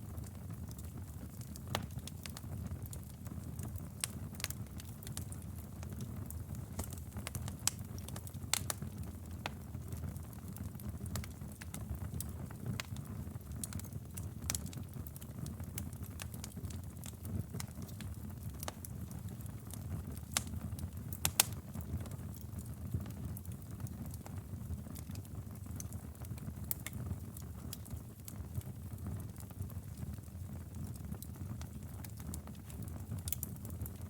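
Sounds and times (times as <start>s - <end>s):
wood fire crackling: 0.0s - 34.0s
fire pops and snaps: 0.1s - 34.0s.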